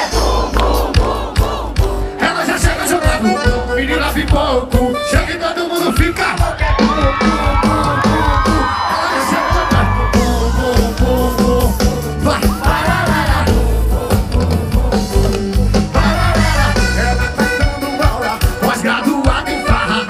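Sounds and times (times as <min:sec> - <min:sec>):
live concert music with bass beat: 0:00.0 - 0:20.0
person singing: 0:00.0 - 0:20.0.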